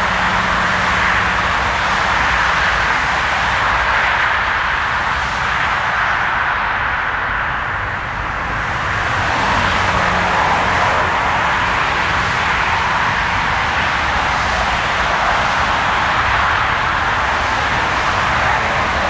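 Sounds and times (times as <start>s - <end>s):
jet engine noise: 0.0s - 19.0s.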